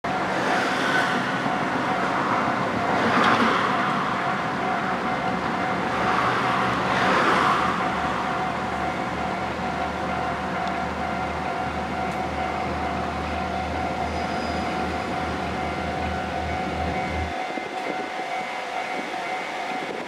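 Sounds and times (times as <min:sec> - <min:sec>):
train wheels rumbling on rails: 0:00.0 - 0:20.0
level crossing alarm: 0:00.1 - 0:20.0.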